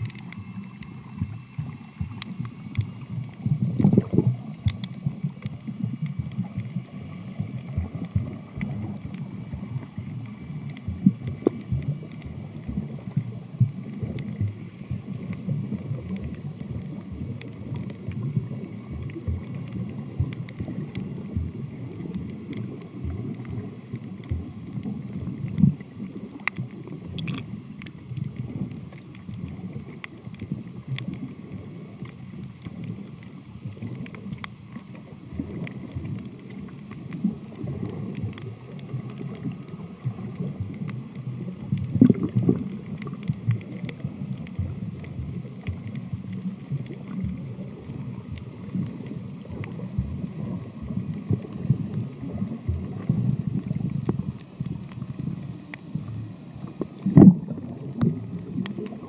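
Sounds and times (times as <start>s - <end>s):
faint underwater clicks: 0.0s - 59.0s
underwater water rumble: 0.0s - 59.0s.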